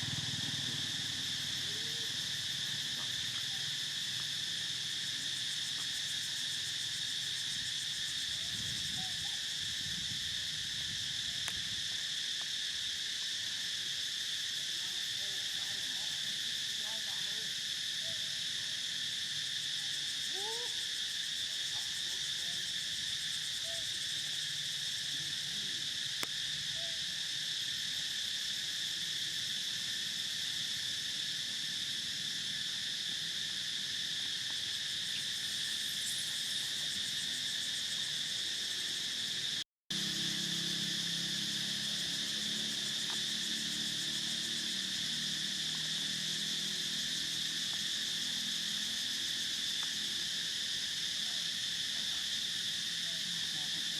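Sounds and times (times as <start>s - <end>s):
faint insect chirps: 0.0s - 53.9s
insects droning: 0.0s - 53.9s.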